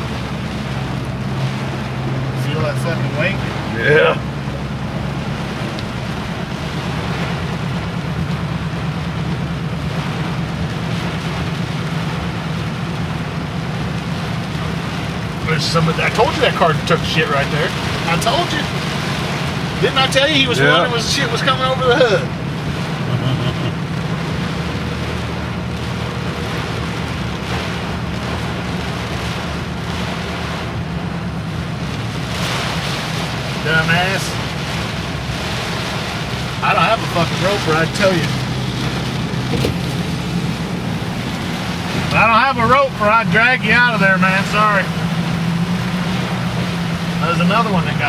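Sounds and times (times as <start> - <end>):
low engine hum: 0.0 - 48.0
water hissing from tyres: 0.0 - 48.0.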